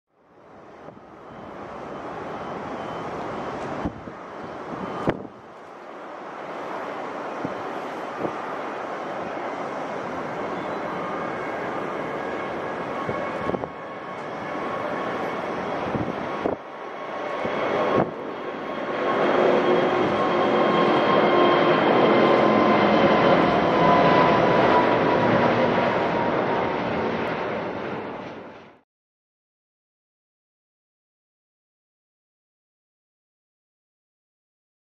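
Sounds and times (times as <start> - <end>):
jet airliner taking off: 0.3 - 28.8
whining jet engine tones: 0.3 - 28.8.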